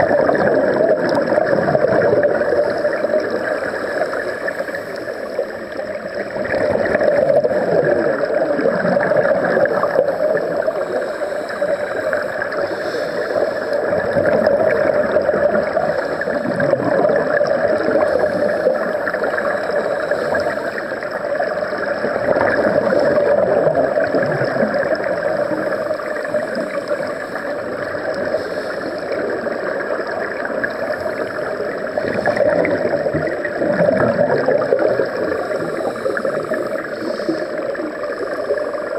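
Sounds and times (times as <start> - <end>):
steady underwater hum: 0.0 - 38.9
underwater bubbles gurgling: 0.0 - 38.9.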